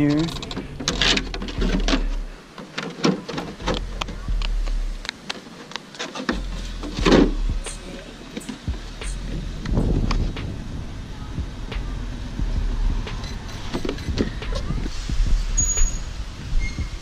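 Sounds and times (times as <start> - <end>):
low microphone rumble: 0.0 - 2.5, 3.4 - 5.1, 6.3 - 17.0.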